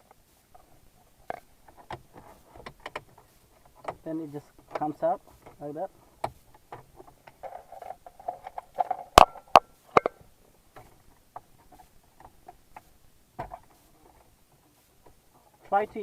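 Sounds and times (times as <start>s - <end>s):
plastic scraping and rubbing: 0.0s - 14.4s.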